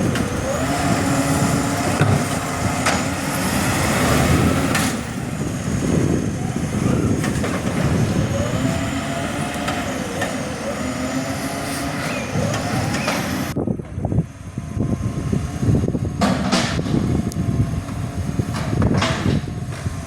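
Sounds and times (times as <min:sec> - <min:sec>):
garbage truck engine running: 0:00.0 - 0:20.0.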